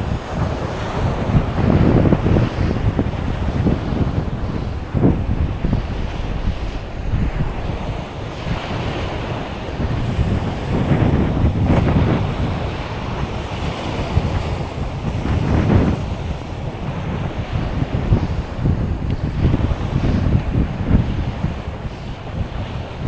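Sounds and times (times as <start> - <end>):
waves washing onto beach: 0.0 - 23.0
wind buffeting microphone: 0.0 - 23.0.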